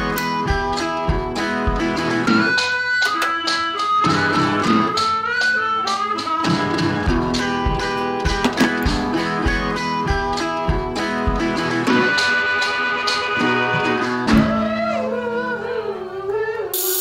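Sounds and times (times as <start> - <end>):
plucked guitar music: 0.0 - 16.5.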